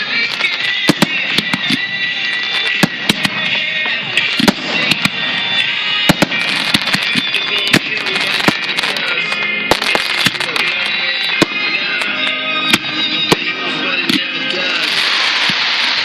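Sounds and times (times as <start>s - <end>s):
background music: 0.0s - 16.0s
crackling fireworks stars: 0.0s - 16.0s
fireworks shells bursting: 0.0s - 16.0s.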